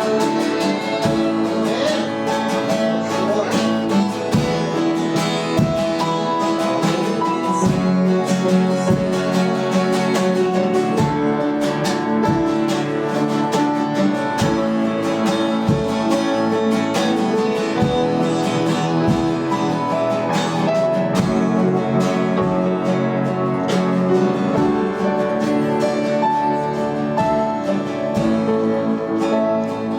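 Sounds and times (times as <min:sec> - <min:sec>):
plucked and strummed guitar: 0:00.0 - 0:29.9.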